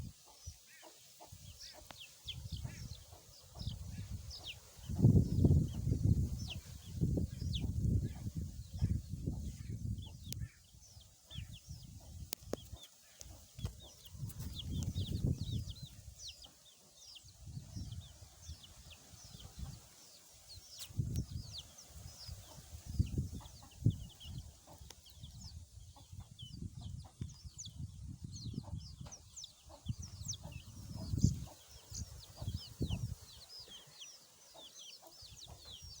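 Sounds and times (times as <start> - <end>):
chicks peeping: 0.1 - 36.0.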